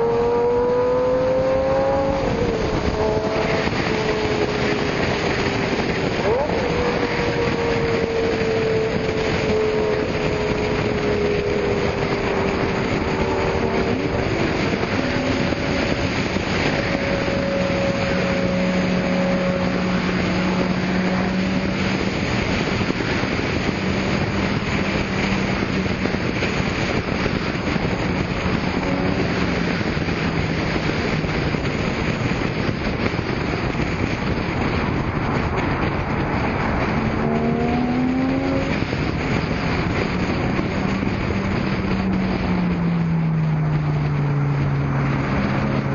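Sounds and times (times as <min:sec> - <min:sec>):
car engines running: 0:00.0 - 0:45.9
wind noise on microphone: 0:00.0 - 0:45.9.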